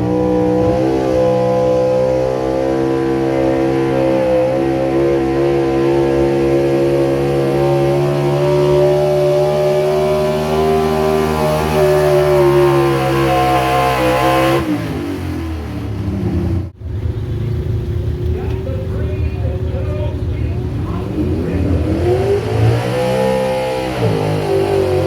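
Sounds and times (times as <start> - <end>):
vehicle engine running under load: 0.0 - 25.0.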